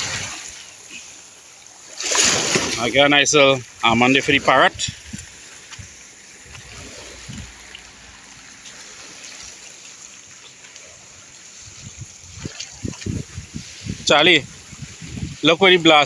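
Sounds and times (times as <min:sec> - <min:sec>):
seawater lapping at shoreline: 0:00.0 - 0:16.0.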